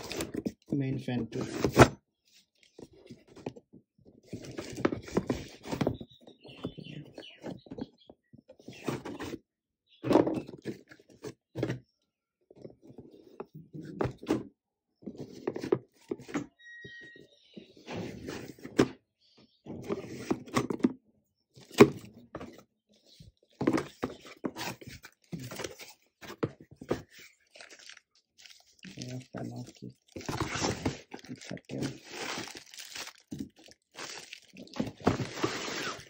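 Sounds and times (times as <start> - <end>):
cardboard and plastic rustling: 0.0 - 9.4, 10.1 - 11.9, 12.6 - 16.4, 19.7 - 20.9, 21.6 - 36.0.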